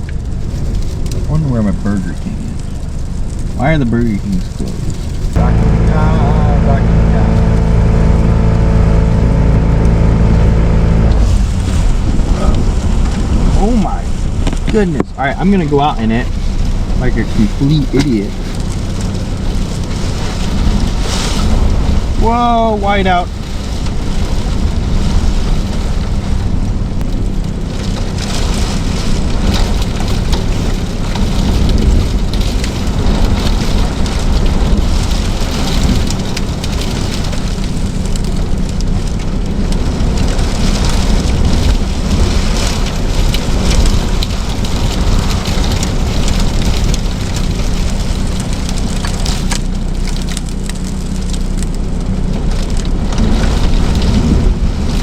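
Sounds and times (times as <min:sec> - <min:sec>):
blizzard wind blasting microphone: 0:04.4 - 0:50.0, 0:51.8 - 0:55.0.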